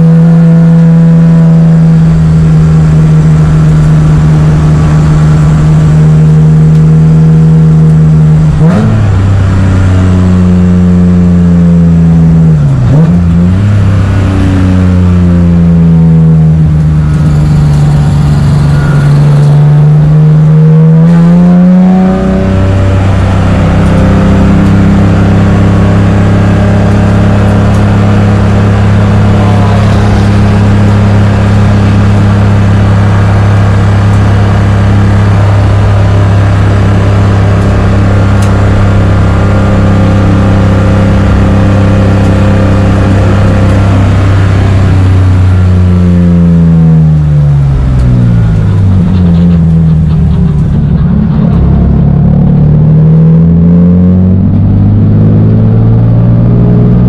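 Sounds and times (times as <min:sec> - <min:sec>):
race car engine: 0:00.0 - 0:57.0.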